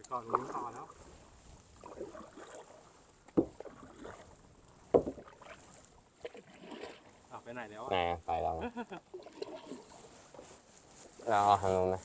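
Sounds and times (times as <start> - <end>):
paddle strokes in water: 0.0 - 7.4, 9.1 - 11.3.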